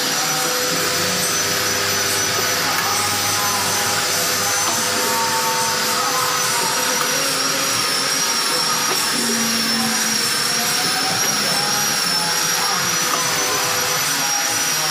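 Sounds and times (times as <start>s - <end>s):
packing machine hiss and hum: 0.0s - 14.9s.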